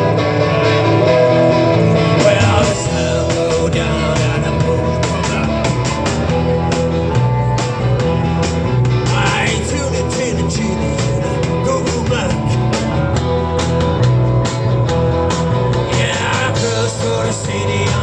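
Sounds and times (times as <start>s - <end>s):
bass line: 0.0s - 18.0s
drums: 0.0s - 18.0s
electric guitar riff: 0.0s - 18.0s.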